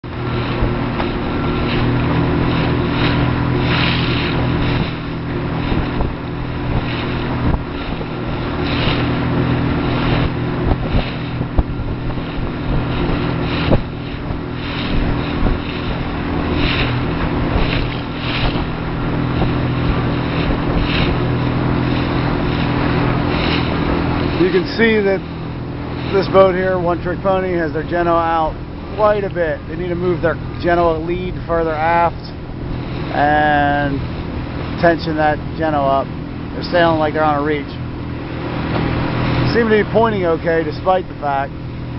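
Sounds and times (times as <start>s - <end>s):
motorboat engine running: 0.0s - 41.9s
wind on microphone: 0.0s - 41.9s.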